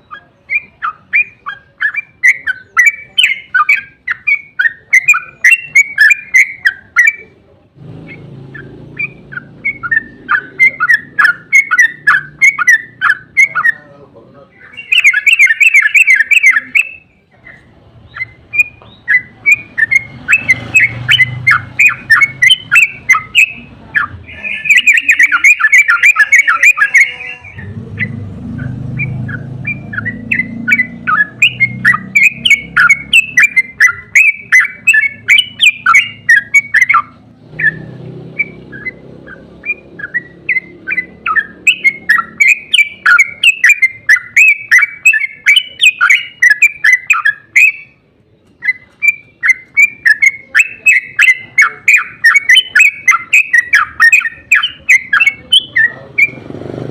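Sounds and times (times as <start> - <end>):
bird chattering song: 0.0 - 56.6.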